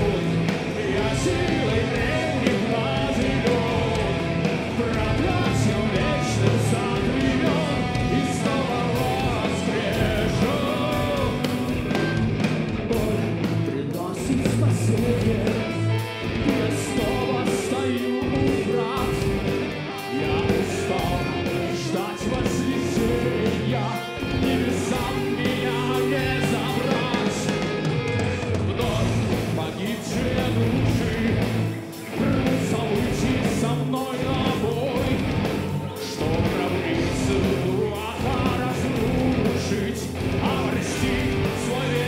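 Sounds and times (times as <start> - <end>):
heavy metal band playing: 0.0 - 42.0.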